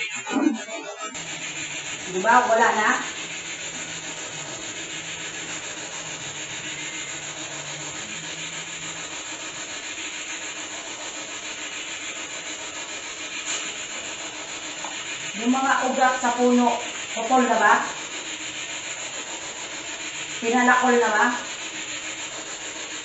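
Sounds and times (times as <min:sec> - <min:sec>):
steady hiss: 0:01.2 - 0:23.0.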